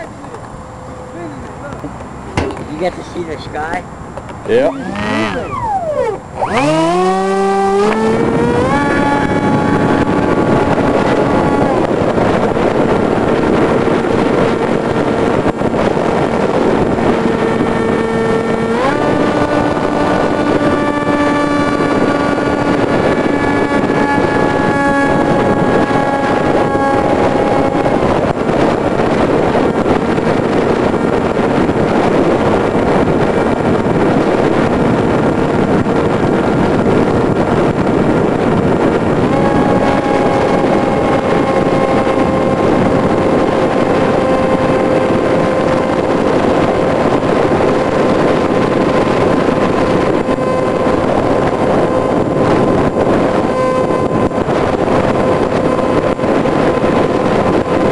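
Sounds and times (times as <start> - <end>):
electric motor and propeller whining: 0.0 - 57.9
wind rush on microphone: 0.0 - 57.9.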